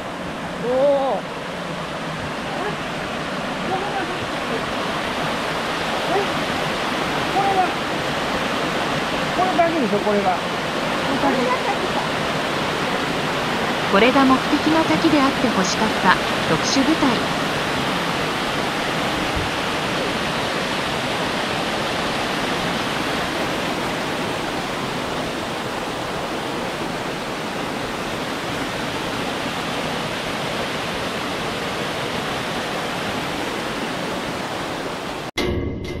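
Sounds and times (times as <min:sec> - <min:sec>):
waterfall rushing over rocks: 0:00.0 - 0:35.3.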